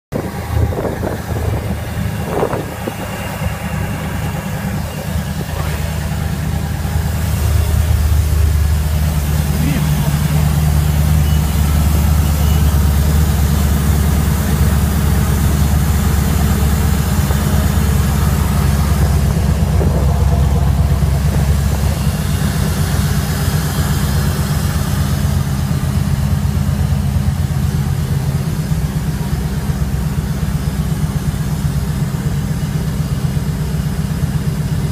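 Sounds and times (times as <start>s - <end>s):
boat engine idling: 0.1s - 34.9s.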